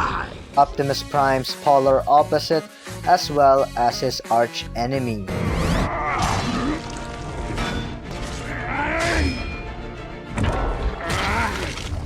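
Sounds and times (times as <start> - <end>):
dramatic film music: 0.0 - 12.0.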